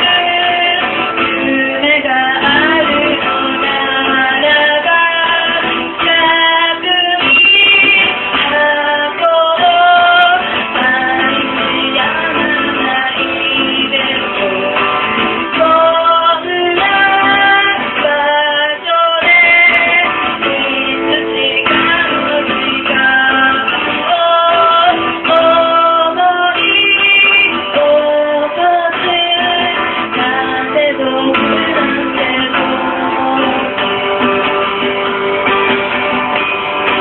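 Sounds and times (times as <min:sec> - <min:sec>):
woman singing: 0:00.0 - 0:35.2
acoustic guitar: 0:00.0 - 0:37.0.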